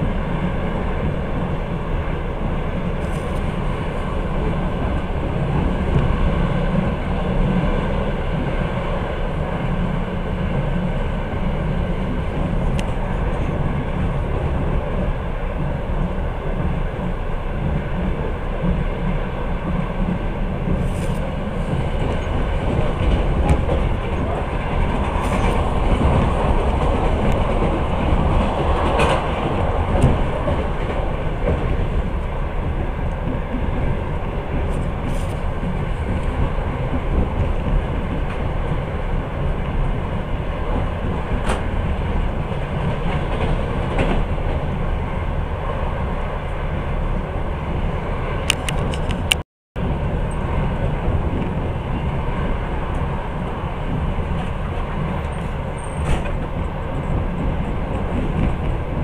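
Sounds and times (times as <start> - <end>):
train carriage rumble: 0.0 - 59.0.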